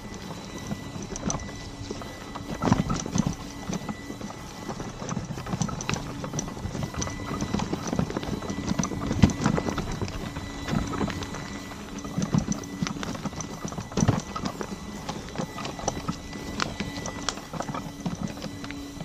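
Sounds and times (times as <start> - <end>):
faint steady whine: 0.0 - 19.0
wheel knocking on stones: 0.0 - 19.0.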